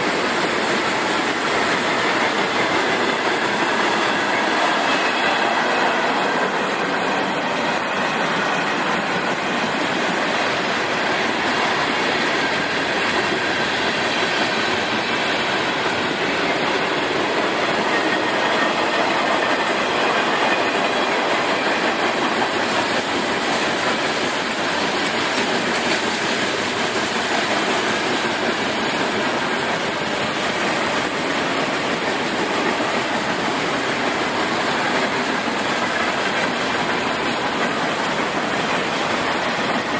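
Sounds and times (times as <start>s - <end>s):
train rumbling and rattling: 0.0s - 39.9s.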